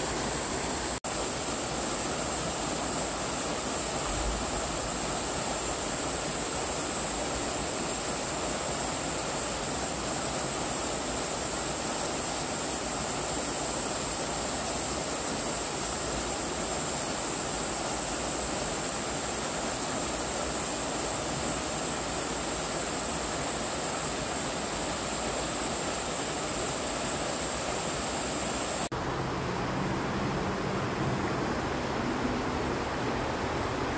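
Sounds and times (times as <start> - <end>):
outdoor hiss: 0.0 - 33.9
waterfall rushing: 0.0 - 33.9.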